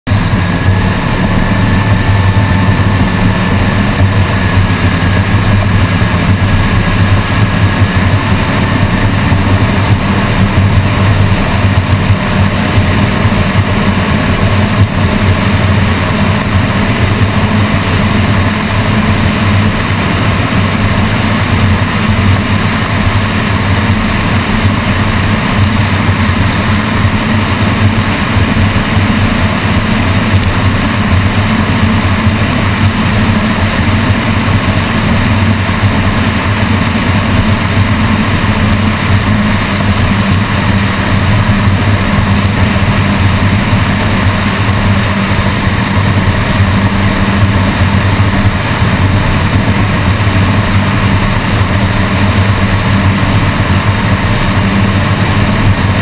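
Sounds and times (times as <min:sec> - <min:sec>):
powerboat engines droning: 0:00.1 - 0:56.0
rushing wind and water: 0:00.1 - 0:56.0.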